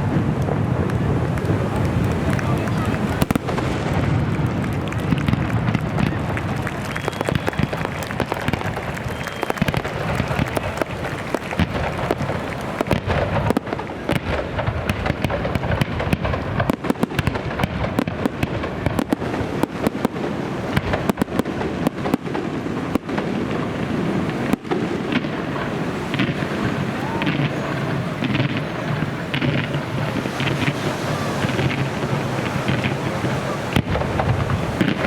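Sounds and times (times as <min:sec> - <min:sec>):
fireworks crackling and exploding: 0:00.0 - 0:35.0.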